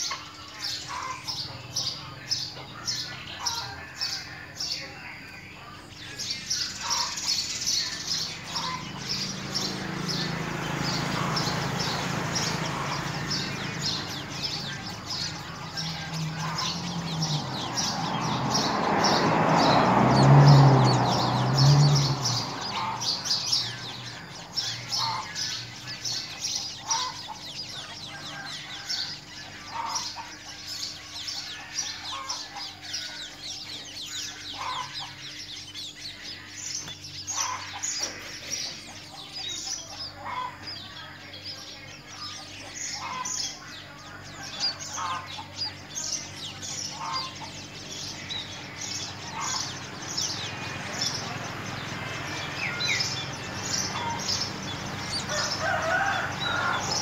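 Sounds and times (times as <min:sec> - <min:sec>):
birds chirping: 0:00.0 - 0:57.0
lower bird calls: 0:00.0 - 0:57.0.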